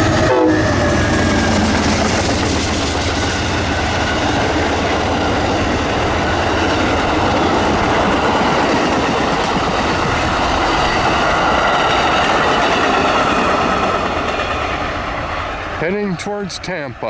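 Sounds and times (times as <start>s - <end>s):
rail joints clickety-clack: 0.0s - 17.0s
train wheels rumbling: 0.0s - 17.0s.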